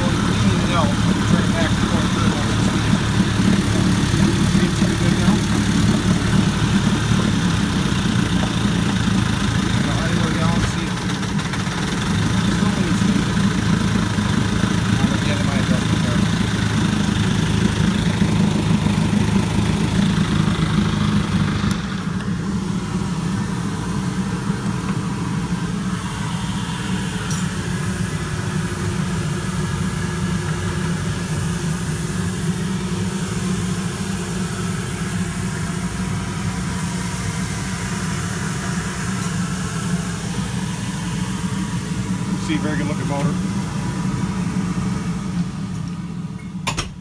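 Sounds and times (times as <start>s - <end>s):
outboard motor running: 0.0s - 46.9s.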